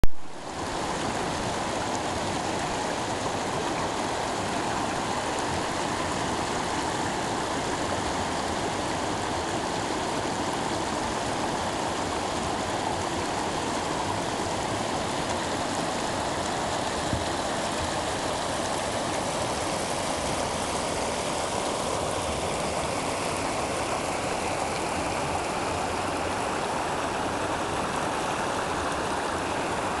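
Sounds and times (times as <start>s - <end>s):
river rapids rushing: 0.2s - 30.0s.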